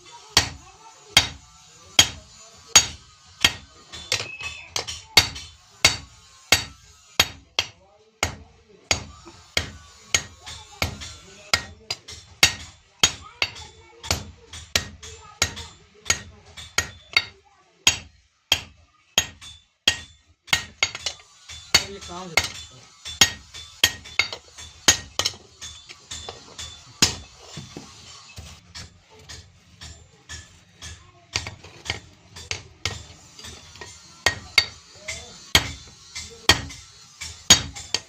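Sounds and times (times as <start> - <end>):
hammer striking metal on anvil: 0.2 - 28.1, 28.7 - 38.0.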